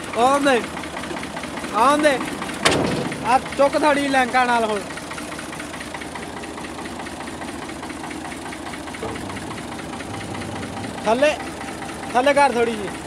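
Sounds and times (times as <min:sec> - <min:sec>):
tractor diesel engine knocking: 0:00.0 - 0:13.0.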